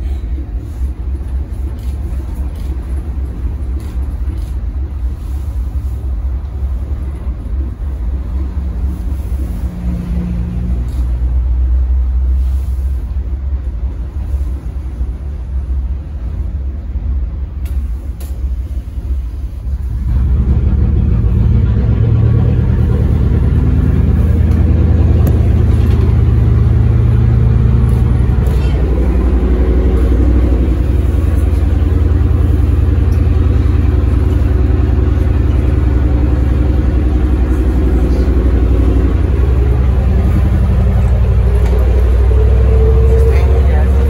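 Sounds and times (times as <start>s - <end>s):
bus engine running: 0.0s - 44.0s.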